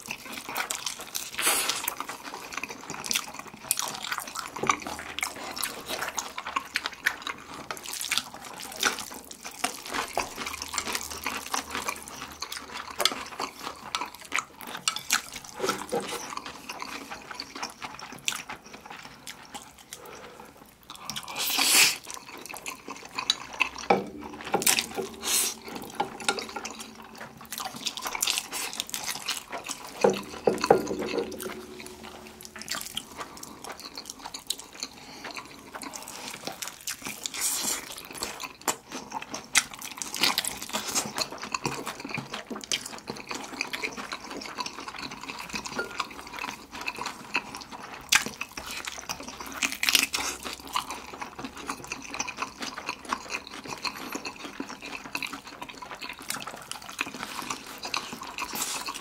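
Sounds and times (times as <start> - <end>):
biting into fried chicken: 0.0 - 59.0
noodles slurped and chewed: 0.0 - 59.0.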